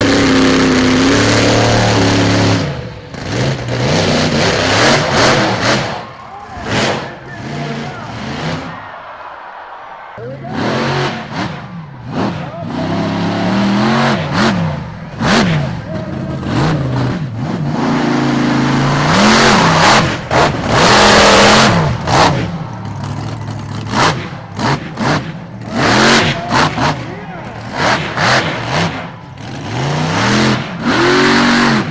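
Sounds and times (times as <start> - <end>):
truck engine revving: 0.0 - 8.8, 10.4 - 31.9.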